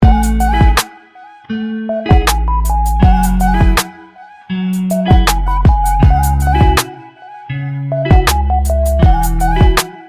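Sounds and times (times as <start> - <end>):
intro music with a beat: 0.0 - 1.1, 1.8 - 10.0.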